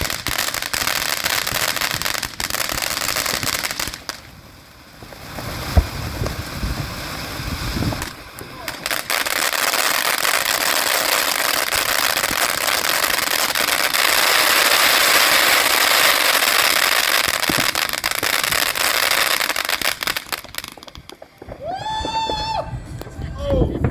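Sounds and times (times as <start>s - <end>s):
firework fountain hissing and crackling: 0.0s - 23.9s.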